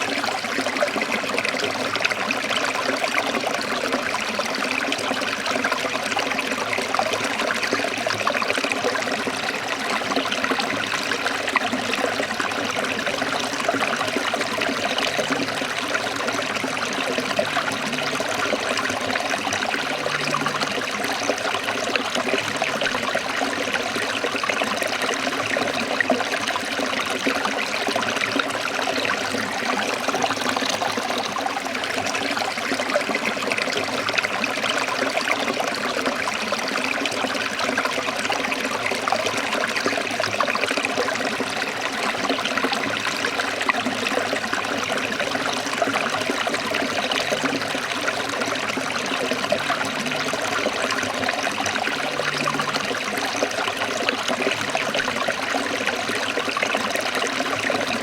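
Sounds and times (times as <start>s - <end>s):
stream trickling and splashing: 0.0s - 58.0s.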